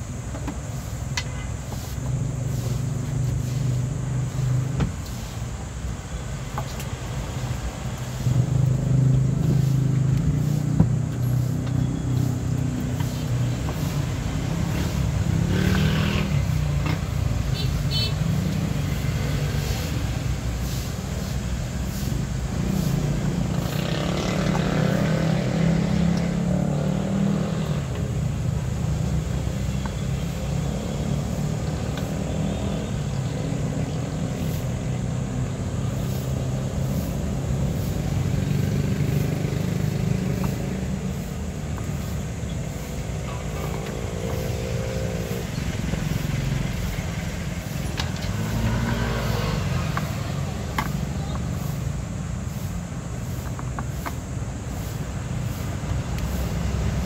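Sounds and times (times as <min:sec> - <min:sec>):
vehicle engines rumbling: 0:00.0 - 0:57.0.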